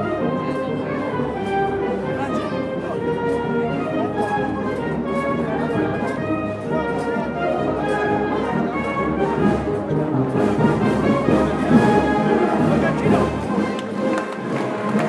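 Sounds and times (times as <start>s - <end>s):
brass band playing: 0.0s - 15.0s
soft beat: 0.0s - 15.0s.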